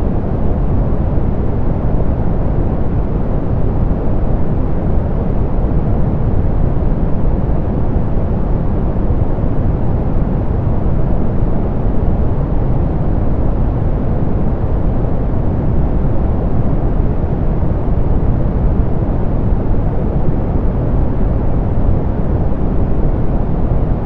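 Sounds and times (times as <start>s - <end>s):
muffled pink noise hiss: 0.0s - 24.0s.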